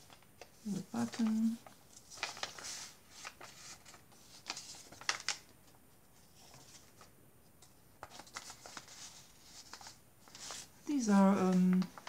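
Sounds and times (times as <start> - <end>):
page turning: 0.0 - 12.0
paper rustling: 0.0 - 12.0.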